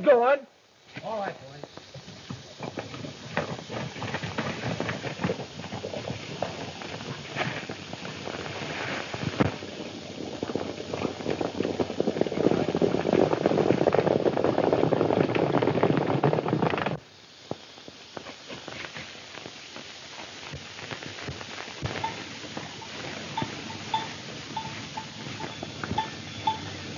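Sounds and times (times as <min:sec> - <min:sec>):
film soundtrack hiss: 0:00.0 - 0:26.9
horses galloping hoofbeats: 0:01.6 - 0:26.9.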